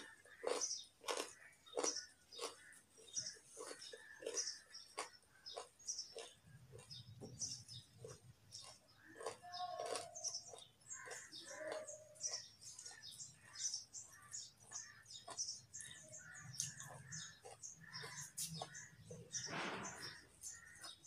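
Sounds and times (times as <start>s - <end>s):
carrot crunching while chewed: 0.0s - 19.4s.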